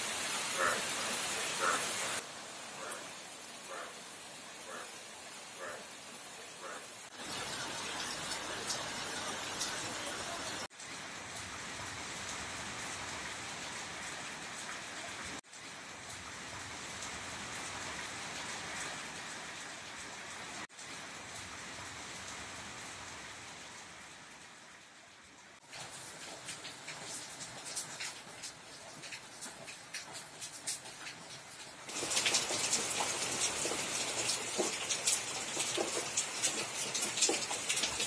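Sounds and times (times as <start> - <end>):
rain falling on standing water: 0.0 - 38.0.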